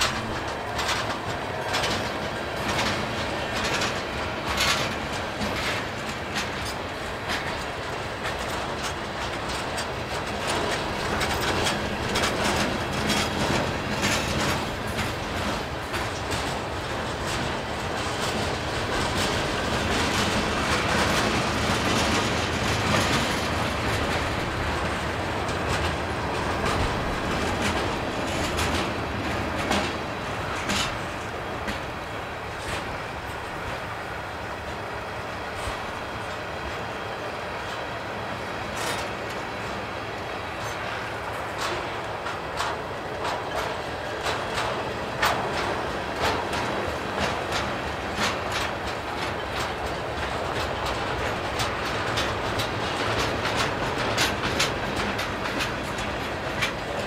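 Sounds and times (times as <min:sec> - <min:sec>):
freight train wheels clacking: 0:00.0 - 0:57.0
train knocks: 0:00.0 - 0:57.0
train rumble: 0:00.0 - 0:57.0.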